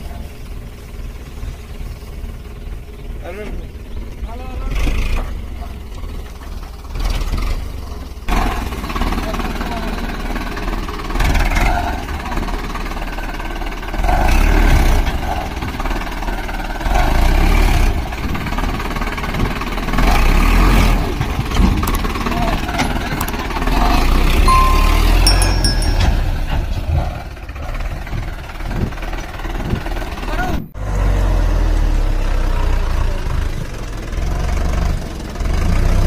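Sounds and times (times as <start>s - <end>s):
tractor diesel engine under load: 0.0s - 24.4s, 26.4s - 36.0s.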